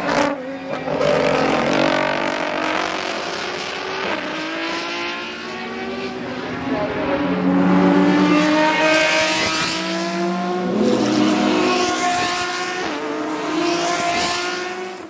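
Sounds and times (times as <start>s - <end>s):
race car engines revving past: 0.0s - 15.0s.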